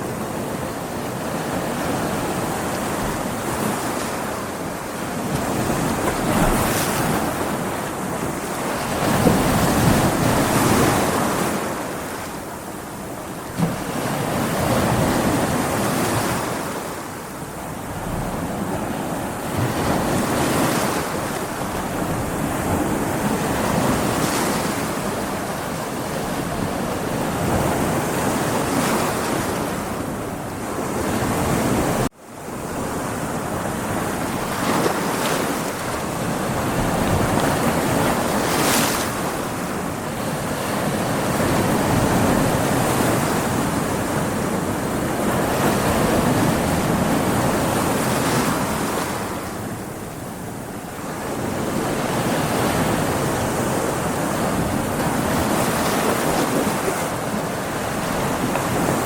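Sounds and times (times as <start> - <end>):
ocean waves breaking on rocks: 0.0 - 59.0.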